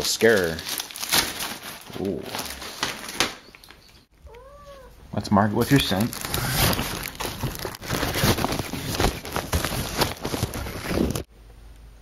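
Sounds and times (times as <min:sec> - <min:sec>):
fabric tunnel crinkling and rustling: 0:00.0 - 0:03.9, 0:05.6 - 0:11.3.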